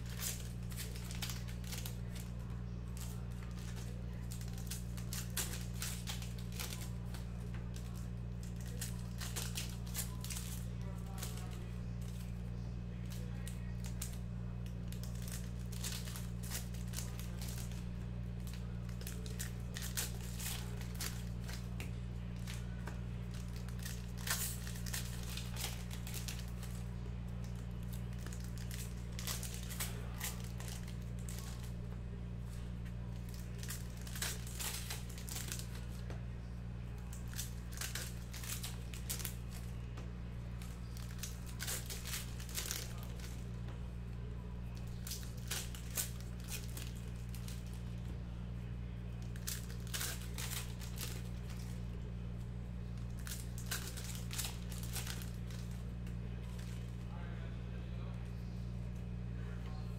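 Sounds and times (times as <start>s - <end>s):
plastic wrappers crinkling and tearing: 0.0s - 57.1s
steady low hum: 0.0s - 59.9s.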